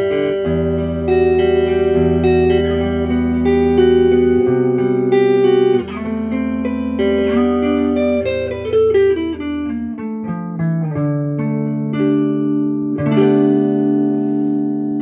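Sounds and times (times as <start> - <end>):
clean electric guitar: 0.0 - 15.0.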